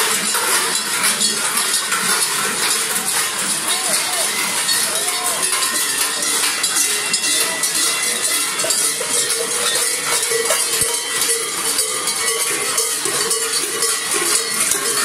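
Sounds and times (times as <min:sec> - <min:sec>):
large bells clanging: 0:00.0 - 0:15.0.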